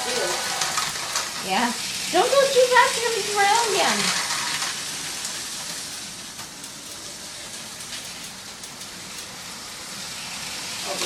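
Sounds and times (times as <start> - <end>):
toy trains whirring rattle: 0.0 - 11.0.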